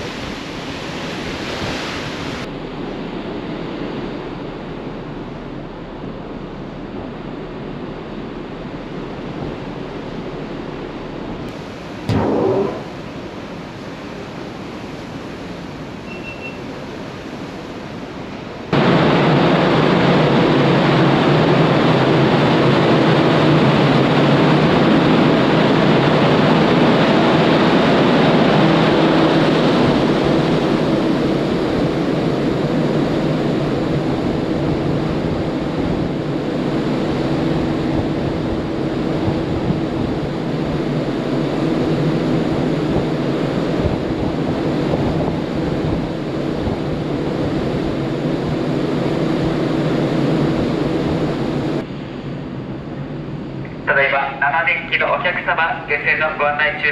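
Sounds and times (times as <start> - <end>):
rush of wind and water: 0.0 - 56.9
low engine hum: 2.2 - 54.8.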